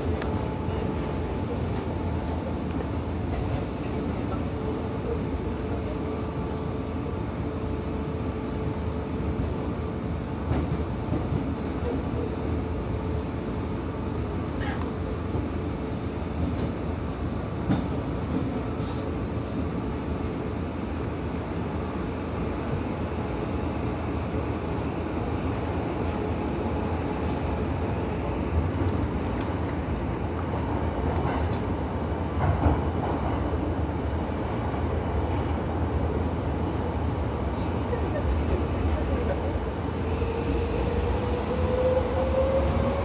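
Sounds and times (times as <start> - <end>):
subway train rumble: 0.0 - 43.0.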